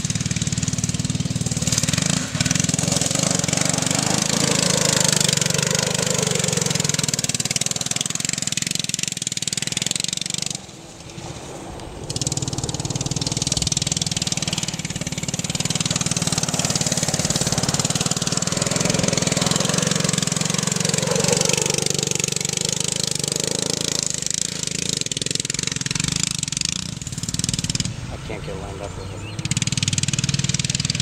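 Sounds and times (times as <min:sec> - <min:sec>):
small gas engine running: 0:00.0 - 0:31.0.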